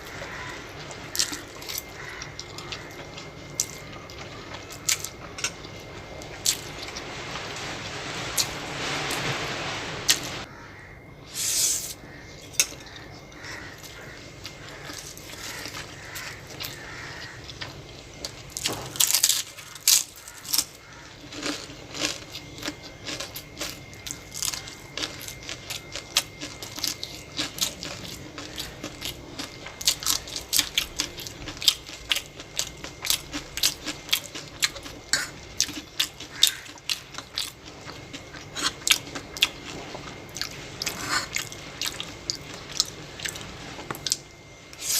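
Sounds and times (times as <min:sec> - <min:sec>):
chewing food: 0:00.0 - 0:07.2, 0:12.8 - 0:44.9.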